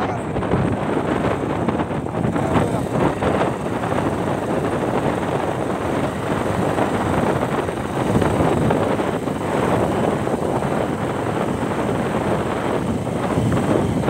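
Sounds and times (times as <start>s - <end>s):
motorcycle engine: 0.0s - 14.0s
road noise: 0.0s - 14.0s
wind rushing on microphone: 0.0s - 14.0s.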